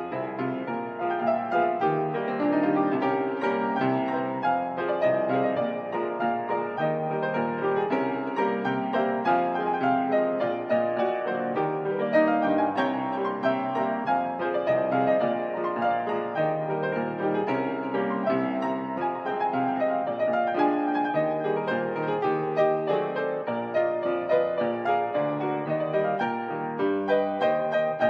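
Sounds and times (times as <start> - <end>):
solo grand piano: 0.0 - 28.0.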